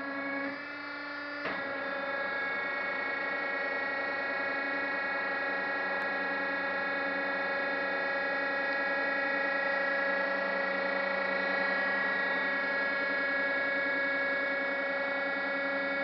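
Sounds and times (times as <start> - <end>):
electric motor and gearbox whine: 0.0 - 16.0.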